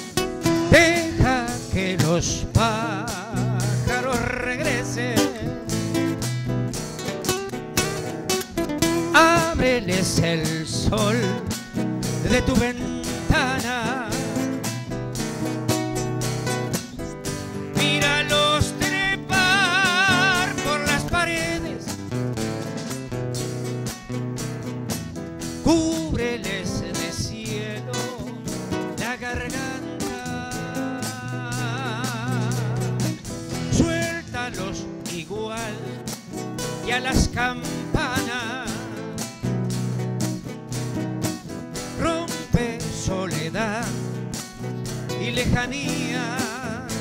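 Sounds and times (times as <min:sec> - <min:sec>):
acoustic guitars strummed: 0:00.0 - 0:47.0
drums: 0:00.0 - 0:47.0
electric bass: 0:00.0 - 0:47.0.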